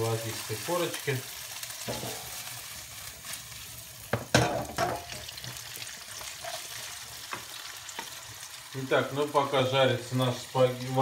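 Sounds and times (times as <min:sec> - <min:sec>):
bacon sizzling in frying pan: 0:00.0 - 0:11.0.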